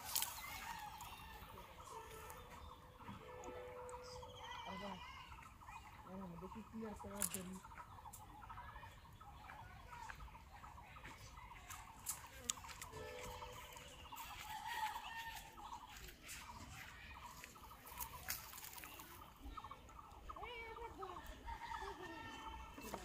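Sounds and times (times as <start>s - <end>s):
birds calling: 0.0s - 23.0s
chickens clucking: 0.0s - 23.0s.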